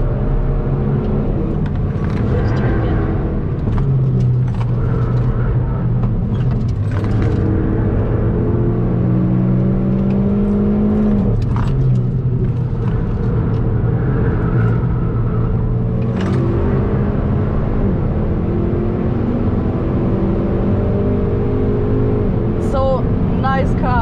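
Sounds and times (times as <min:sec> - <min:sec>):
car engine at track speed: 0:00.0 - 0:24.0.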